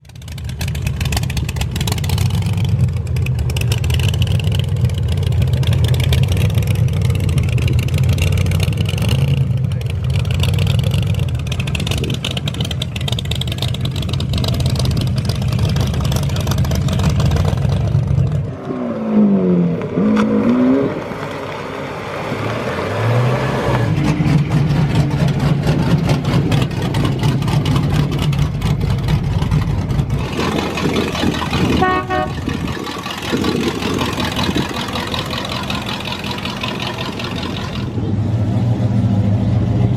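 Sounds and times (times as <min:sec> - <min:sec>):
car engines idling and revving: 0:00.0 - 0:39.9.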